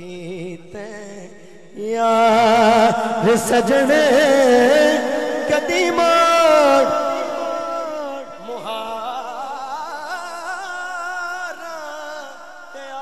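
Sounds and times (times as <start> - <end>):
man singing with heavy echo: 0.0 - 13.0
soft wavering background vocals: 1.8 - 13.0.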